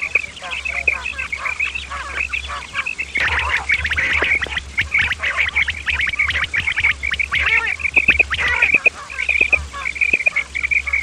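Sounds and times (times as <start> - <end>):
quails chirping: 0.0 - 11.0
steady low hum: 0.0 - 11.0.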